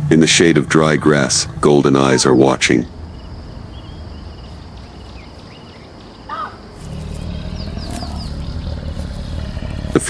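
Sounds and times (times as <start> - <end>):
low rumble: 0.0 - 5.5, 6.8 - 10.0
harsh bird call: 0.0 - 10.0
small birds chirping: 0.0 - 10.0.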